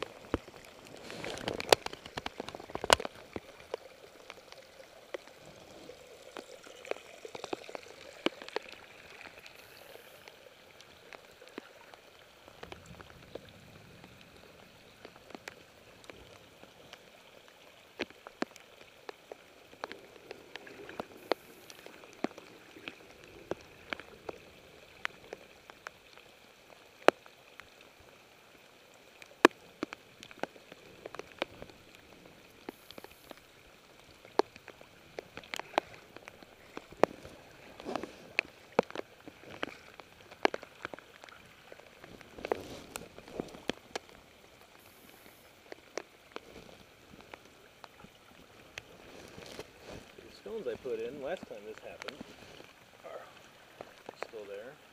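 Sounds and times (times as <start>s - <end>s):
water drops ticking on leaves: 0.0s - 54.9s.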